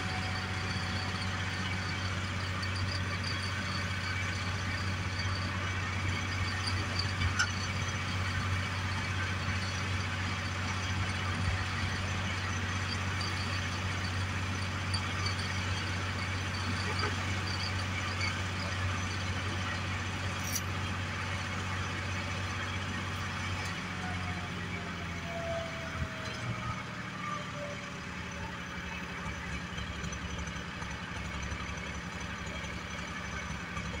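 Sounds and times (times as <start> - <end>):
crane engine running: 0.0 - 34.0.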